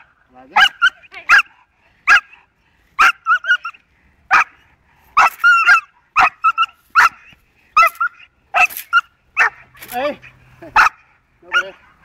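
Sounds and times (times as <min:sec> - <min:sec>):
puppy barking: 0:00.5 - 0:02.4, 0:03.0 - 0:04.6, 0:05.2 - 0:12.0.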